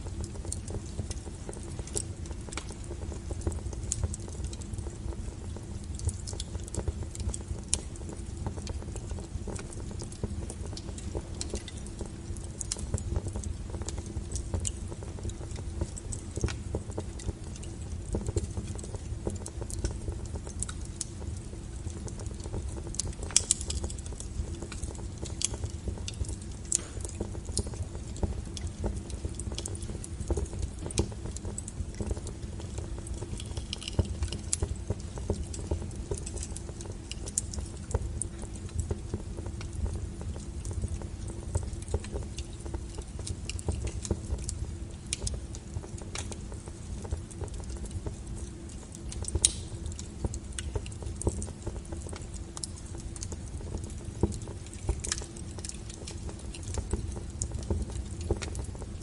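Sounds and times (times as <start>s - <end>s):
fire flames rumbling: 0.0s - 59.0s
firewood crackling and popping: 0.0s - 59.0s.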